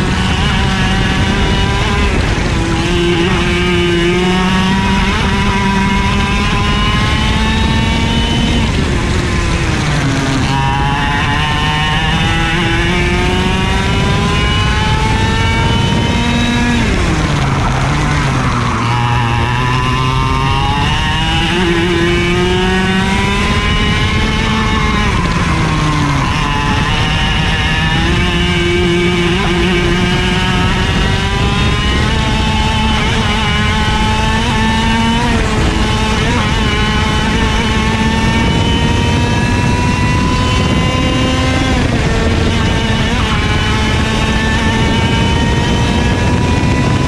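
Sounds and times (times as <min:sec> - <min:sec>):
kart engine revving: 0:00.0 - 0:47.0
wind rushing: 0:00.0 - 0:47.0.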